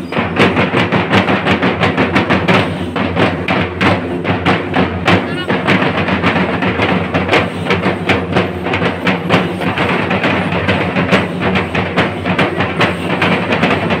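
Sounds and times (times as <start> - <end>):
fast drum beating: 0.0 - 14.0.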